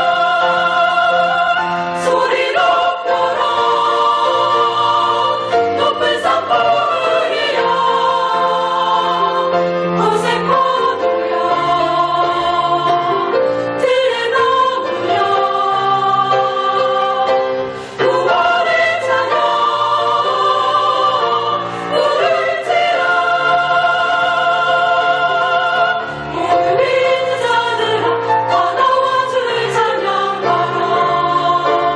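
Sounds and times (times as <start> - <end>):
choir singing a hymn: 0.0 - 31.9.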